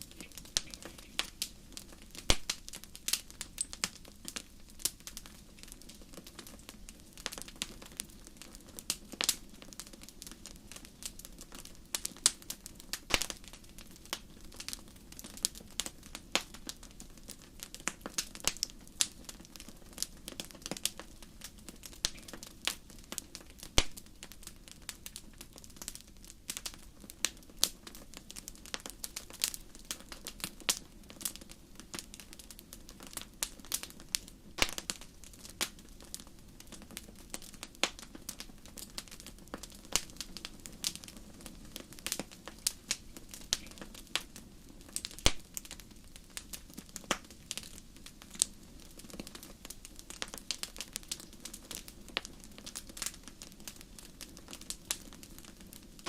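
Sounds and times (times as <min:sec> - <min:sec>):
wood crackling and popping: 0:00.0 - 0:56.0.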